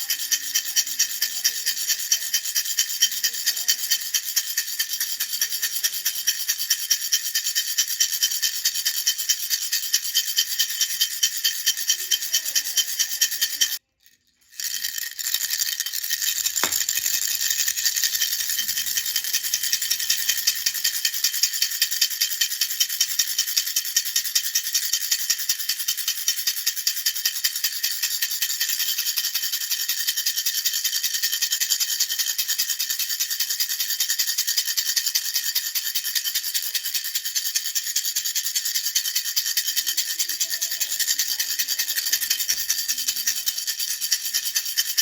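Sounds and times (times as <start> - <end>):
baby rattle shaken: 0.0 - 45.0.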